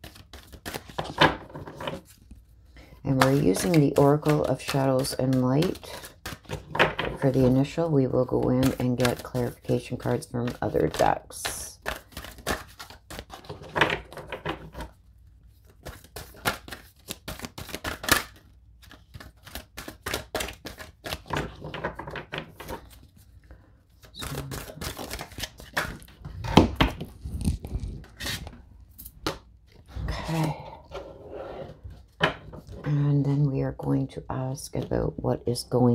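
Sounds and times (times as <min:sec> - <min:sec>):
cards shuffled by hand: 0:00.0 - 0:02.4, 0:03.1 - 0:30.6.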